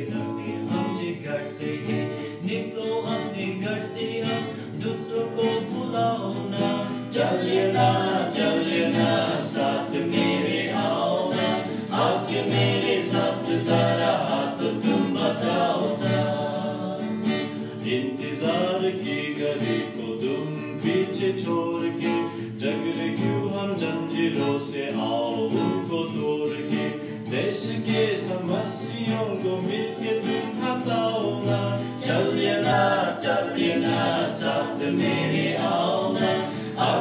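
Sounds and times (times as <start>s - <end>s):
men singing: 0.0s - 37.0s
strummed acoustic guitar: 0.0s - 37.0s.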